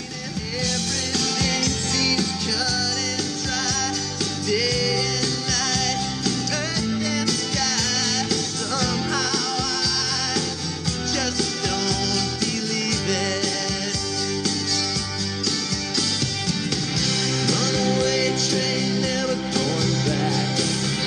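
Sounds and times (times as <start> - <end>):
song through speakers: 0.0 - 21.0.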